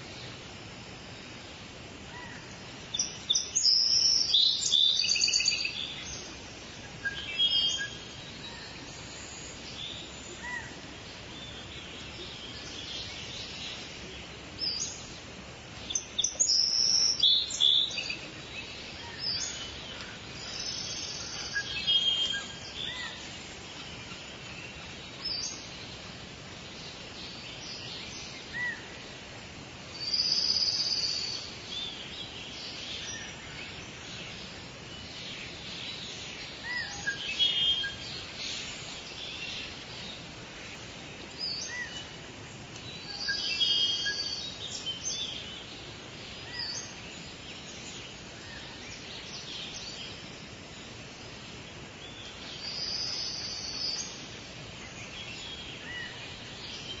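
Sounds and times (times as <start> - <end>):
songbirds chirping and trilling: 0.0 - 57.0
steady background hiss: 0.0 - 57.0.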